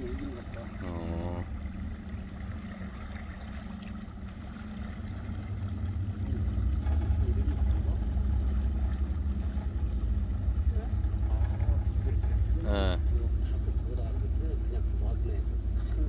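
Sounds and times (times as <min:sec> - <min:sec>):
boat motor running: 0:00.0 - 0:16.0
water churning around hull: 0:00.0 - 0:16.0.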